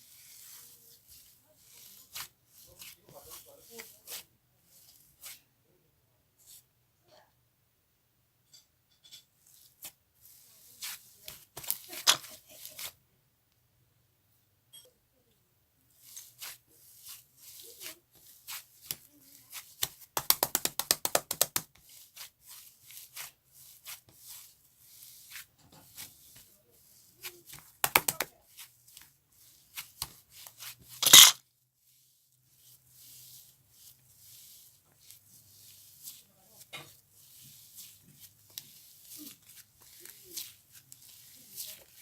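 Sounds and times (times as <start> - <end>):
slime squelch: 0.0 - 5.5, 9.4 - 13.0, 15.9 - 31.0, 31.8 - 42.0.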